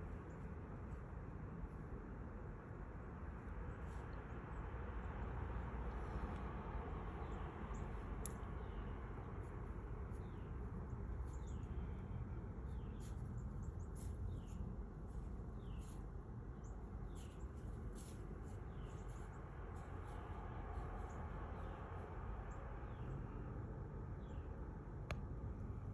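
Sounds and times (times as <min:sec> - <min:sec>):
small birds chirping: 0:00.0 - 0:02.1, 0:03.3 - 0:25.9
low outdoor rumble: 0:00.0 - 0:25.9.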